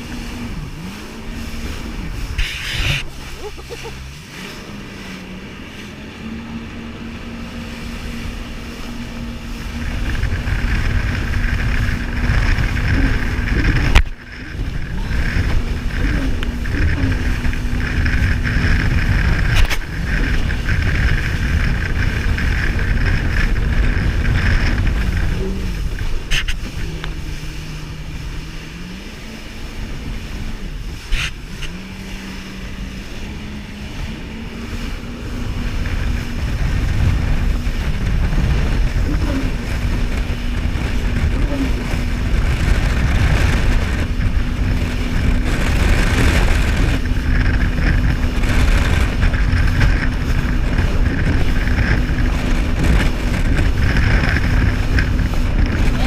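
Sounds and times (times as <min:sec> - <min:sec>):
heavy low rush: 0:00.0 - 0:56.0
jet ski engine running: 0:00.0 - 0:56.0.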